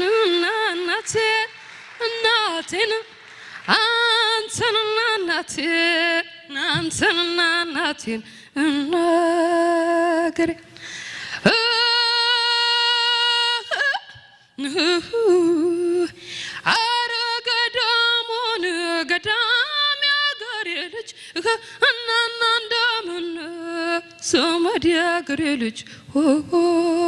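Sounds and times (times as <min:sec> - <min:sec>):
woman singing unaccompanied: 0:00.0 - 0:10.7, 0:11.4 - 0:27.0.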